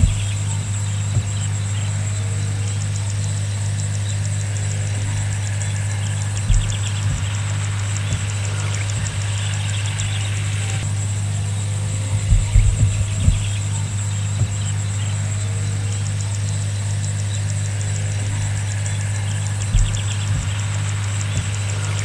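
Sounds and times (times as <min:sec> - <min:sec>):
insects ticking and trilling: 0:00.0 - 0:22.0
steady low hum: 0:00.0 - 0:22.0.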